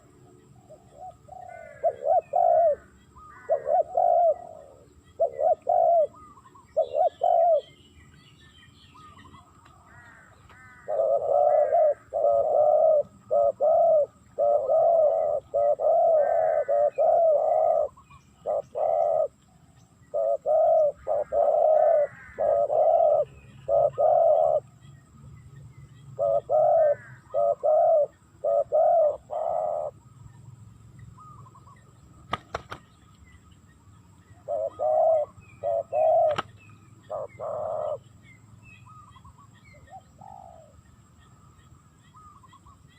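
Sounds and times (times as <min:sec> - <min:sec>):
doves cooing: 0:00.0 - 0:07.8, 0:09.0 - 0:24.9, 0:26.0 - 0:30.2, 0:33.8 - 0:38.2, 0:38.8 - 0:40.9.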